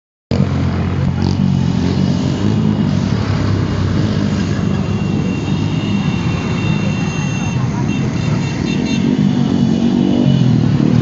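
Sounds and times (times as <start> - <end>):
motorcycle engines rumbling: 0.3 - 11.0.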